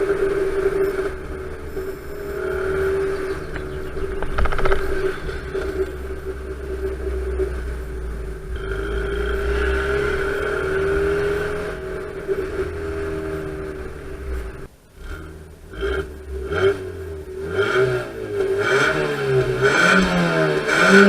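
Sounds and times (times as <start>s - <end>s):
car engine running under load: 0.0s - 21.0s.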